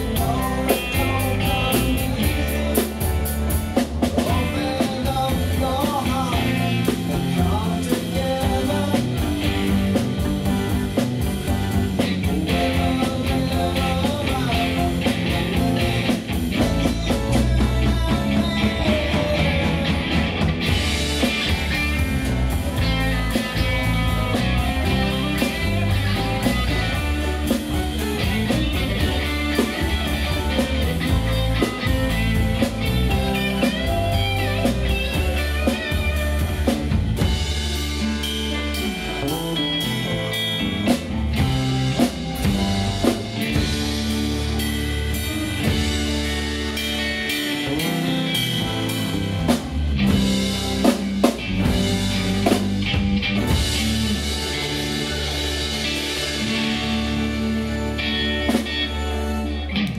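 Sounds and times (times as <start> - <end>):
bass line: 0.0 - 59.9
drum kit with cymbals: 0.0 - 59.9
electric guitar: 0.0 - 59.9.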